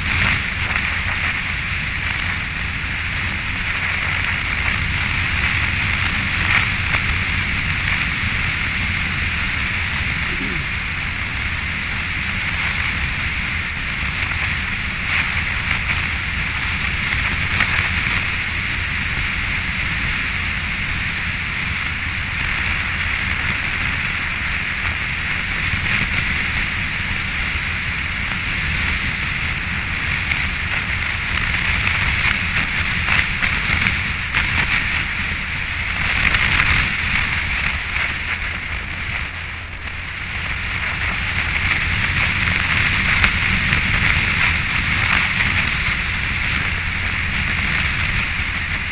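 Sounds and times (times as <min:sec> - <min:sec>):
motorcycle engine drone: 0:00.0 - 0:48.9
tyres on wet road: 0:00.0 - 0:48.9
wind rush on microphone: 0:00.0 - 0:48.9.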